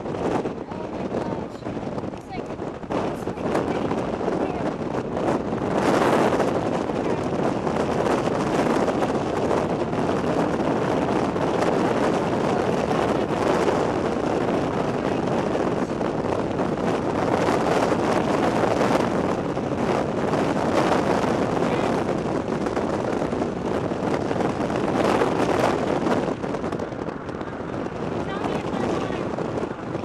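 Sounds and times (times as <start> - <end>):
strong storm wind rushing: 0.0 - 30.0
wind buffeting microphone: 0.0 - 30.0.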